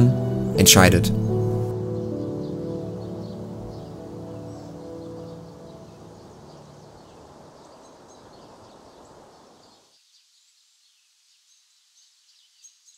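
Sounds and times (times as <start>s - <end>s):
low background hiss: 0.0s - 12.9s
small birds chirping: 0.0s - 12.9s.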